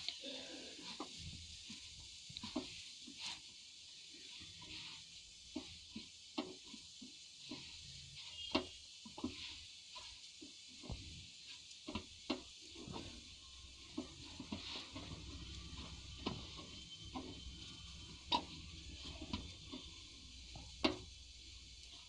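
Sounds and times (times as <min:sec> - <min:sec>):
faint hiss: 0:00.0 - 0:22.0
hands kneading dough: 0:00.0 - 0:22.0.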